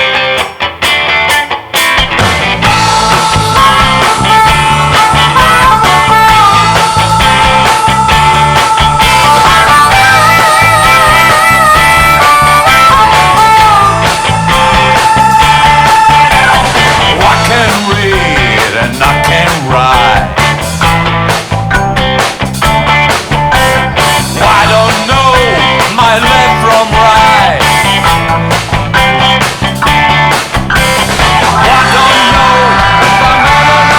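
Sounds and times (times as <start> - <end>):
blues-rock band playing: 0.0 - 33.9
lead guitar bending notes: 0.0 - 33.9.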